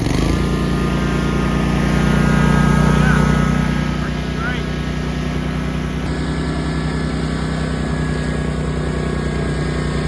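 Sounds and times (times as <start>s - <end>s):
mower engine idling: 0.0s - 10.0s.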